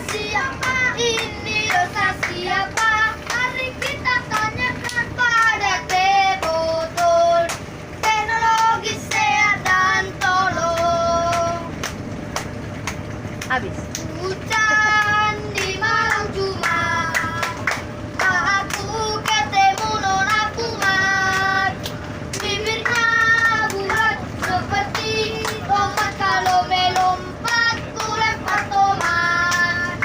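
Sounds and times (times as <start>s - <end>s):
hand claps: 0.0s - 14.1s, 15.0s - 30.0s.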